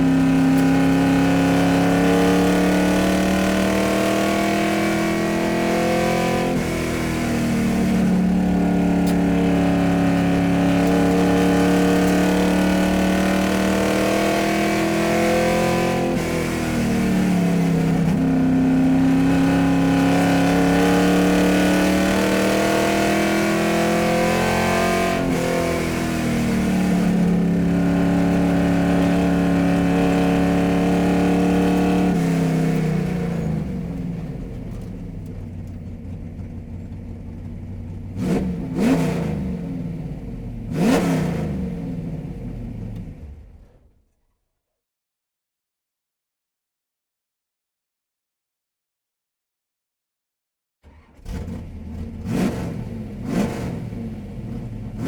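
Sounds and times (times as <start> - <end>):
car engine revving: 0.0 - 35.8, 38.0 - 43.6, 50.8 - 55.0.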